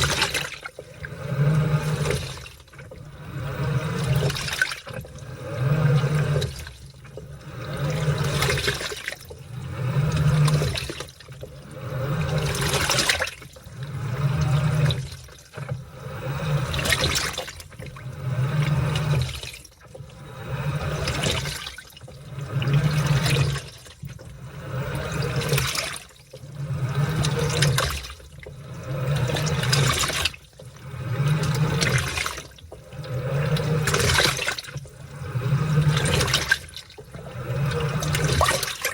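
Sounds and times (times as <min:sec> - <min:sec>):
low motor hum: 0:00.0 - 0:38.9
water sloshing in washing machine: 0:00.0 - 0:38.9.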